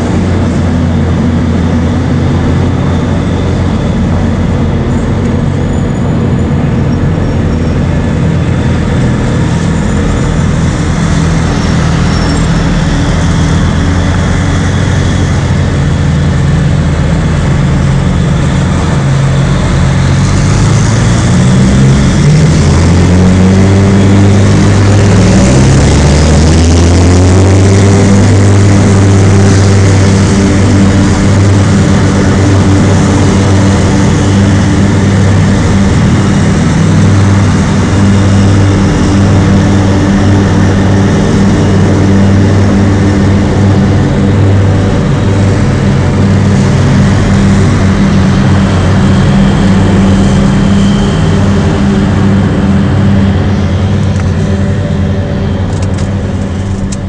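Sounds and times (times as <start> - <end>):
heavy diesel truck engines: 0.0 - 57.0.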